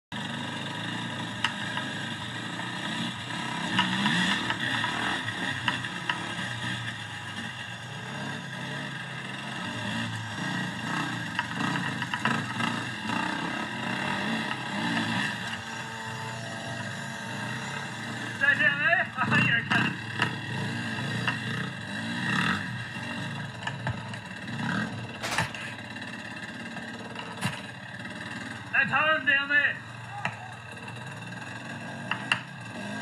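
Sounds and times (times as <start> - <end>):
dirt bike engine revving: 0.1 - 33.0.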